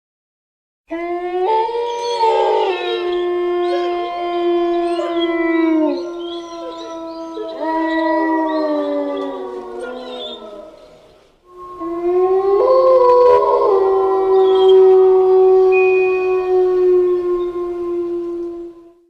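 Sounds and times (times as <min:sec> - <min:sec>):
wolves howling: 0:00.9 - 0:19.0.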